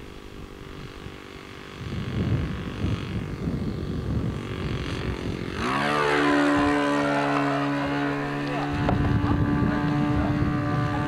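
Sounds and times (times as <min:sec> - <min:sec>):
model airplane engine passing: 0:00.0 - 0:11.0
wind rumble on microphone: 0:00.0 - 0:11.0.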